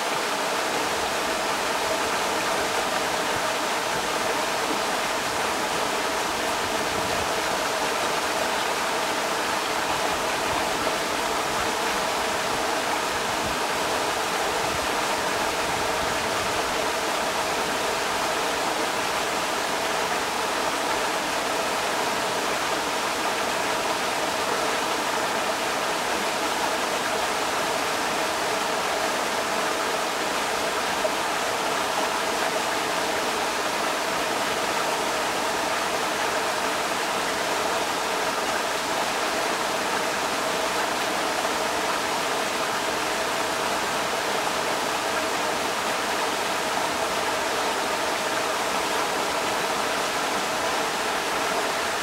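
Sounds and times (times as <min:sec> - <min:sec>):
creek water rushing over rocks: 0:00.0 - 0:52.0.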